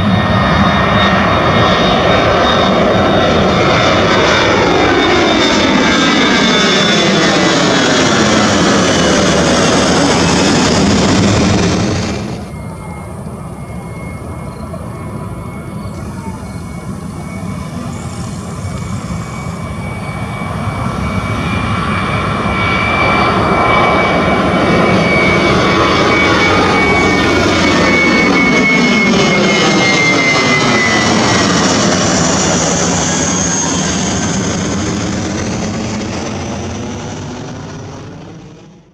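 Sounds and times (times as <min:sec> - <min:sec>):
high jet whine: 0:00.0 - 0:38.9
jet airliner taking off overhead: 0:00.0 - 0:38.9.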